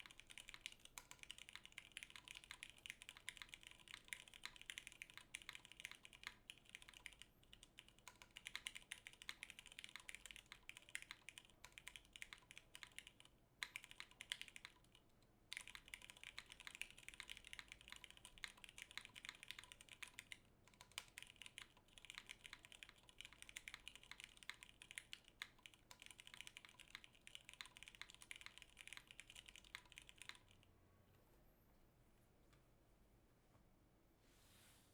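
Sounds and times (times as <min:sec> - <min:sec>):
fast typing on mechanical keyboard: 0:00.0 - 0:30.6.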